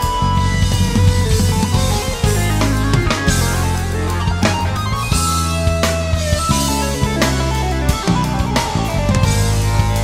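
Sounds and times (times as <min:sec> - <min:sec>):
drums: 0:00.0 - 0:10.0
electric bass: 0:00.0 - 0:10.0
guitar: 0:00.0 - 0:10.0
keyboards: 0:00.0 - 0:10.0.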